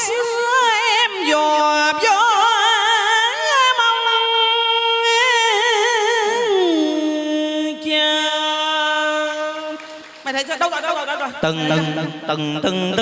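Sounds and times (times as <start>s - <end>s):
person singing long notes: 0.0s - 9.9s, 11.4s - 13.0s.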